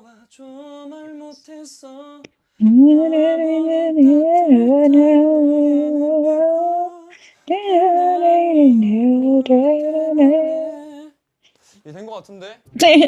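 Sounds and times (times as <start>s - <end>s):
person singing slow melody: 0.0s - 11.2s.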